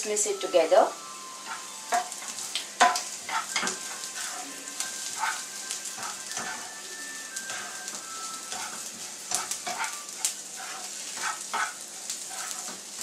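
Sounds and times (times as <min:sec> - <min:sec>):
onions sizzling in oil: 0:00.0 - 0:13.0
spatula scraping a pan: 0:01.4 - 0:06.8, 0:07.4 - 0:13.0.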